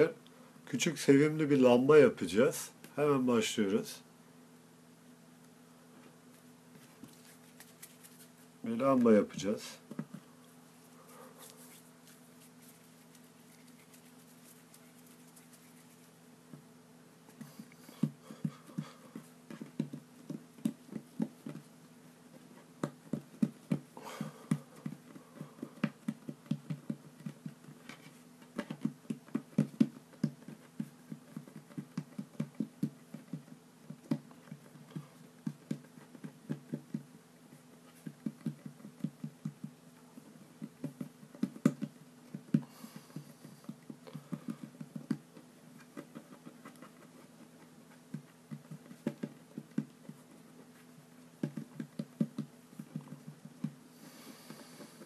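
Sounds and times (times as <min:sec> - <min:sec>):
hands patting dough on table: 0:06.3 - 0:10.3, 0:11.0 - 0:16.7, 0:17.3 - 0:55.0.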